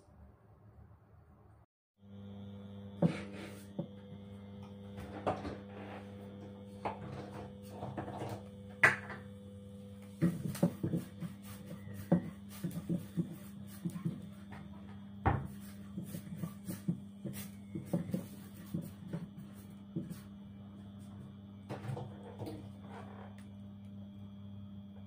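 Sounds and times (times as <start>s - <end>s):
electric cooktop hum: 0.0s - 25.0s.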